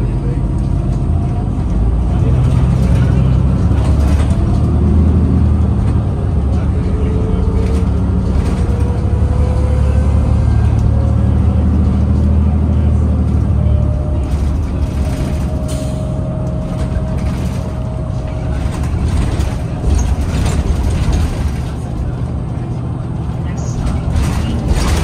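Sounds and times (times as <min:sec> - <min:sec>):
bus drivetrain drone: 0:00.0 - 0:25.0.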